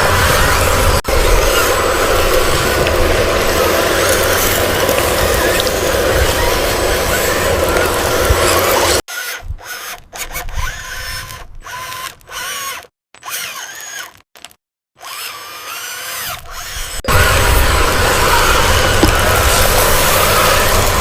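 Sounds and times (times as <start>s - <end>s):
electric gear motor grinding: 0.0s - 21.0s.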